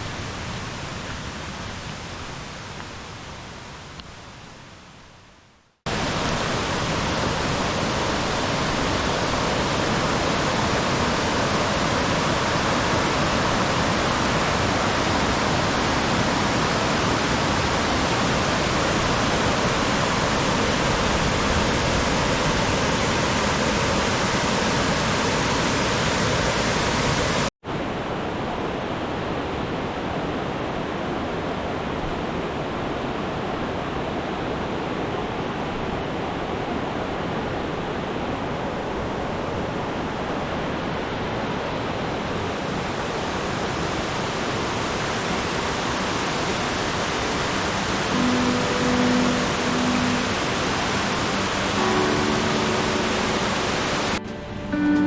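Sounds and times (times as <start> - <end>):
running water rushing: 5.9 - 30.3, 31.8 - 55.0.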